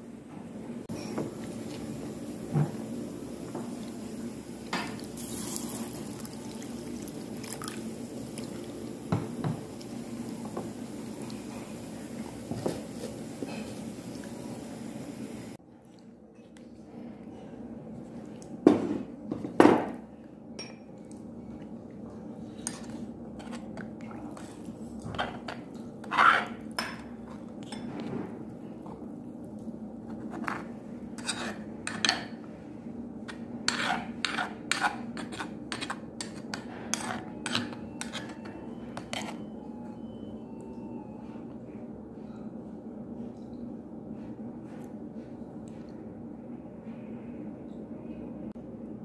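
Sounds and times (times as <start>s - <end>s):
steady background hum: 0.0s - 49.0s.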